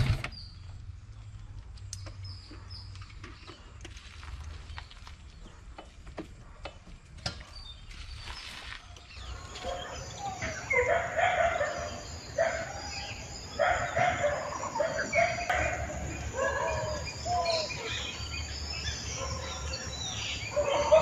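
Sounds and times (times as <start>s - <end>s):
birds calling and chirping: 0.0s - 4.0s, 4.6s - 21.0s.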